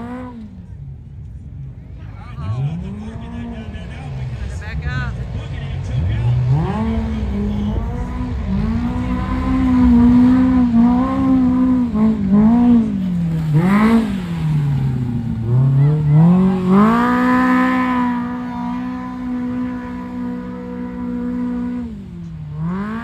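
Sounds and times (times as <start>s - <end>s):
utility vehicle engine revving: 0.0s - 23.0s.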